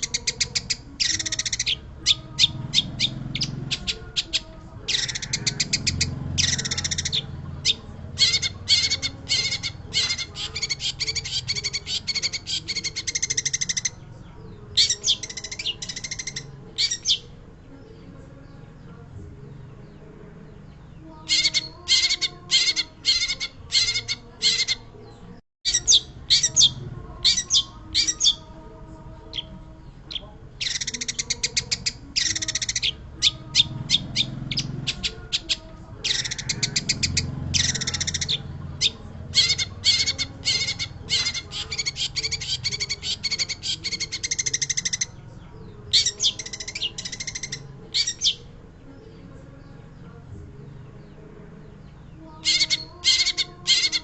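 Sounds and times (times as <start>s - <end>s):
bird harsh chattering song: 0.0s - 18.0s, 20.6s - 28.6s, 29.2s - 50.0s, 51.0s - 54.0s.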